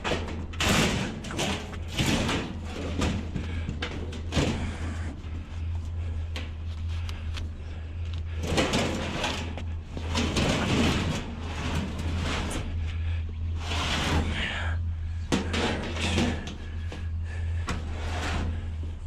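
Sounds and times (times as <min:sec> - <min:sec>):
scrap metal scraping and rattling: 0:00.0 - 0:05.4, 0:08.3 - 0:19.0
steady low hum: 0:00.0 - 0:19.0.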